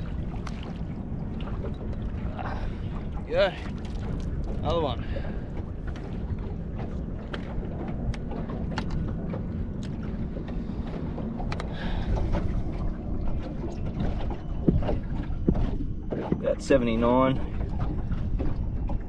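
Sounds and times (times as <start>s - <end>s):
water around a boat: 0.0s - 19.0s
wind: 0.0s - 19.0s.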